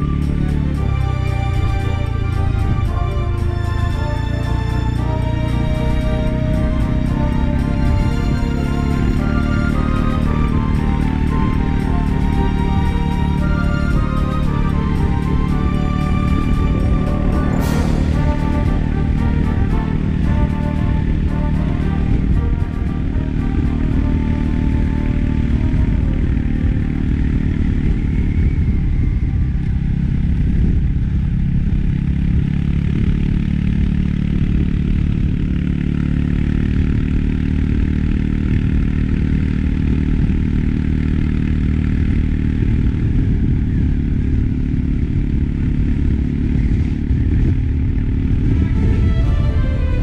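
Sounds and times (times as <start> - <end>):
wind noise: 0.0 - 35.8, 36.6 - 50.0
road noise: 0.0 - 50.0
scooter engine running: 0.0 - 50.0.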